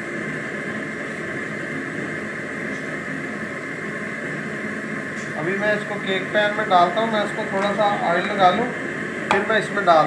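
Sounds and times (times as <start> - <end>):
steady hiss-like noise: 0.0 - 10.0.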